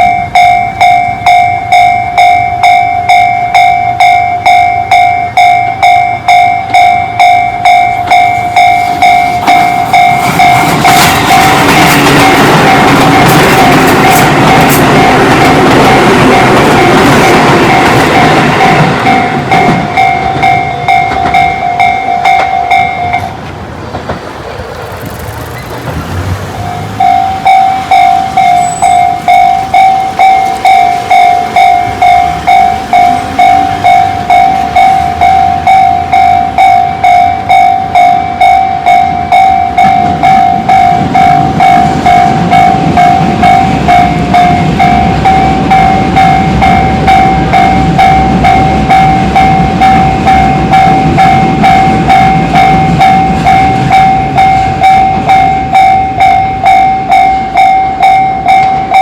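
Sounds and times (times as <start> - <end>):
level crossing alarm ringing: 0.0 - 23.5, 26.5 - 59.0
train rumbling: 0.0 - 59.0.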